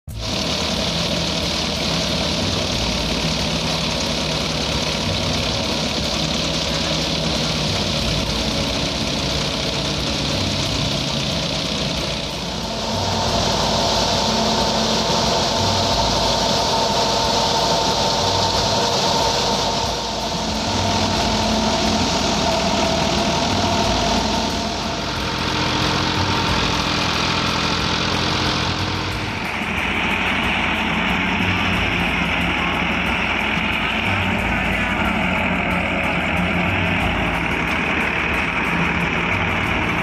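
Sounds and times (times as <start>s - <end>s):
tractor engine: 0.0s - 40.0s
high whine: 0.1s - 40.0s
thresher drum and belts spinning: 0.1s - 40.0s.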